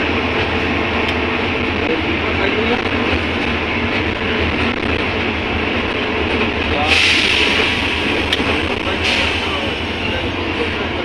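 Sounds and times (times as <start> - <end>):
bus engine droning: 0.0 - 11.0
road rumble: 0.0 - 11.0.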